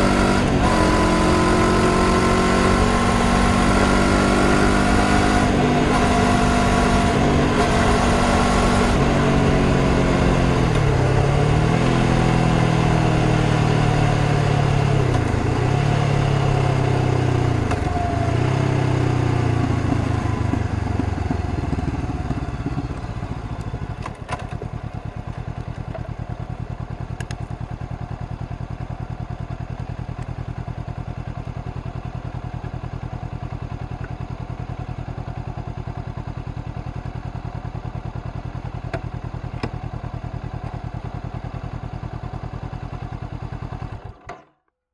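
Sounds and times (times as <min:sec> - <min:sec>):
motorcycle engine slowing down: 0:00.0 - 0:44.3.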